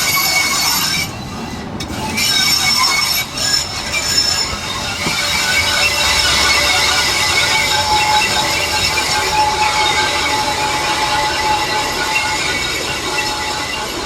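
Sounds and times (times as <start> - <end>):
train wheel squealing on rail: 0.0 - 14.0.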